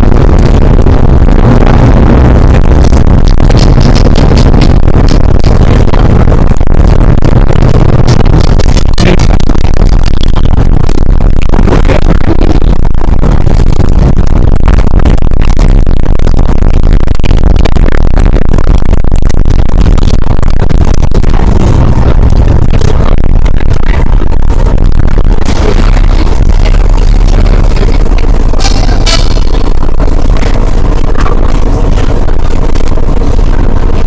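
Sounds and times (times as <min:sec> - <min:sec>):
loud distorted electronic music: 0:00.0 - 0:34.0.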